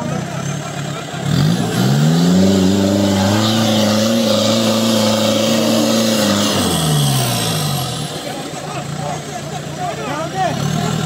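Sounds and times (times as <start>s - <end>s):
jeep engine revving: 0.0s - 11.0s.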